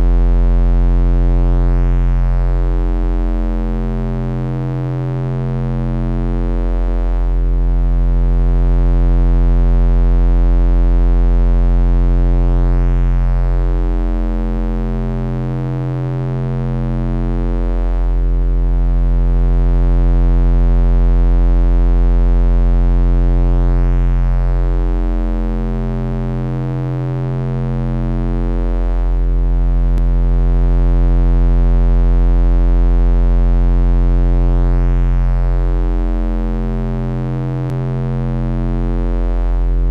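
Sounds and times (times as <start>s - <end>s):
synthesized bass drone: 0.0s - 39.9s.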